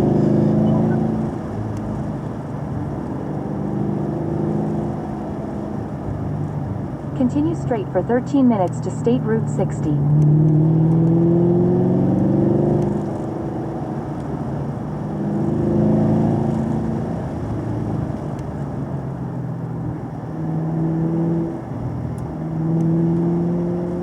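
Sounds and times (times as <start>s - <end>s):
rushing road noise: 0.0s - 24.0s
vehicle engine accelerating: 0.0s - 24.0s.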